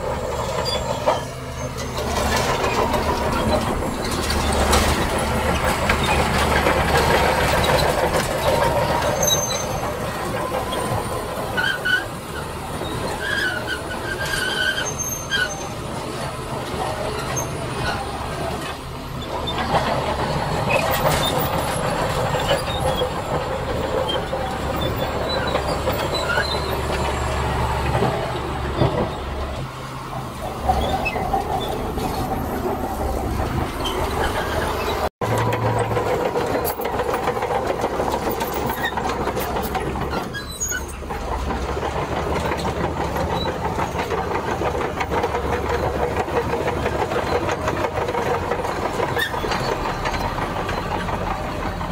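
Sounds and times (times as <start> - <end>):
crawler tracks clanking and squealing: 0.0 - 51.9
diesel engine running: 0.0 - 51.9.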